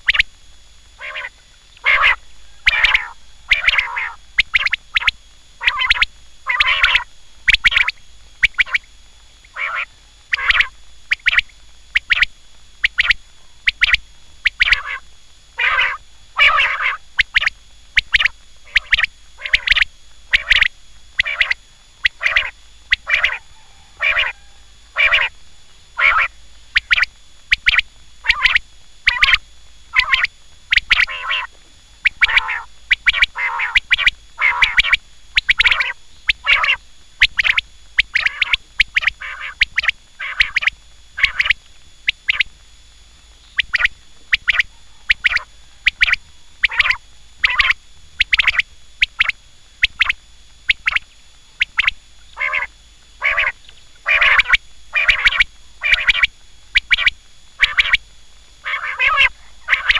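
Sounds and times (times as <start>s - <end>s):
quail calling: 0.0s - 0.3s, 1.0s - 25.4s, 26.0s - 42.5s, 43.5s - 51.0s, 51.6s - 58.0s, 58.6s - 59.9s.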